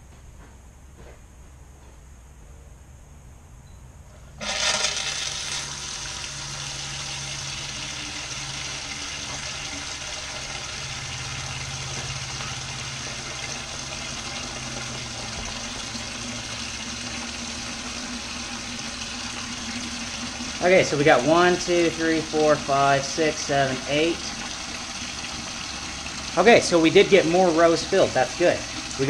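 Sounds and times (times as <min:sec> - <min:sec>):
water running into plastic tubes: 0:04.4 - 0:29.0.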